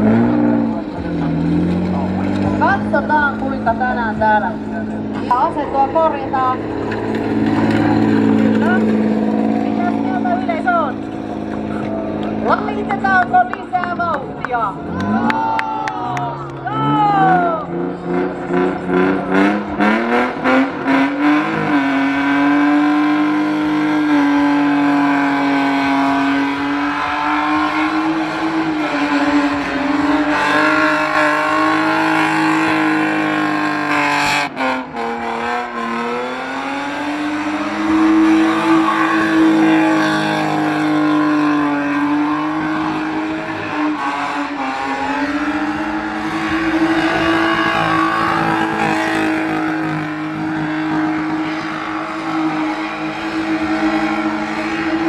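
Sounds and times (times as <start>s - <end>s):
car engine at high revs: 0.0s - 55.0s
tyres spinning on asphalt: 0.0s - 55.0s.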